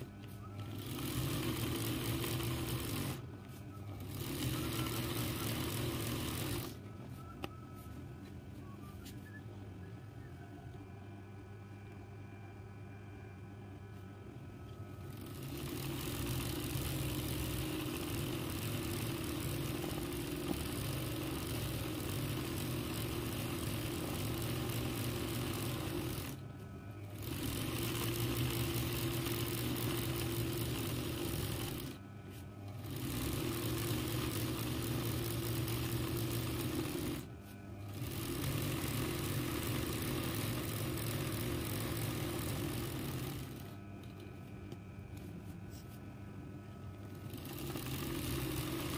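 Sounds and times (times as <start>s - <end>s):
embroidery machine running: 0.0s - 8.0s, 14.3s - 45.3s, 46.6s - 48.9s.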